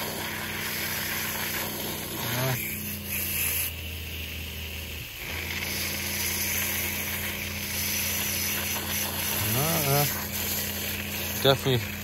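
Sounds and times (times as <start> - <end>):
pressure pump humming: 0.0 - 12.0
water spraying from hose nozzle: 0.0 - 12.0.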